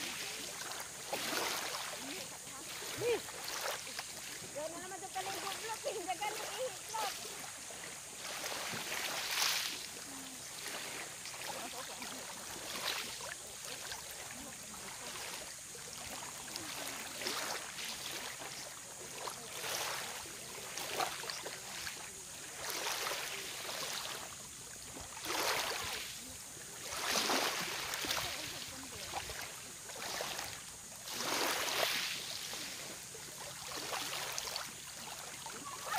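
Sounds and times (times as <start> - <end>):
small waves lapping on shore: 0.0 - 35.9.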